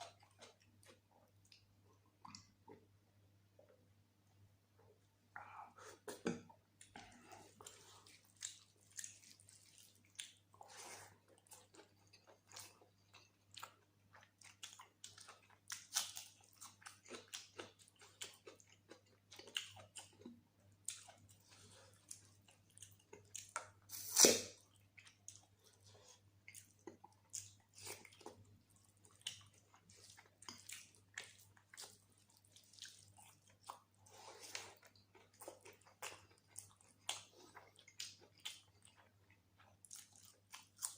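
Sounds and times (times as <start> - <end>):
wet chewing and mouth smacks: 6.0 - 40.9.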